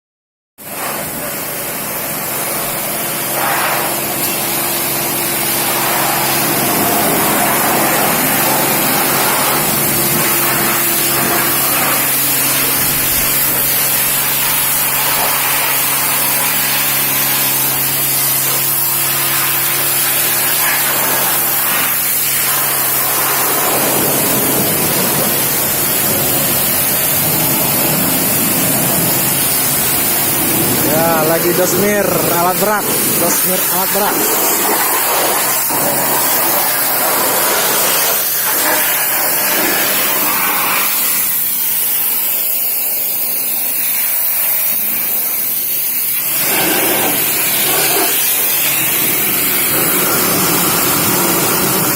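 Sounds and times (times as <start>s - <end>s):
steady motor hum: 0.6s - 42.2s, 43.5s - 51.9s
pressure washer spray hissing: 0.6s - 51.9s.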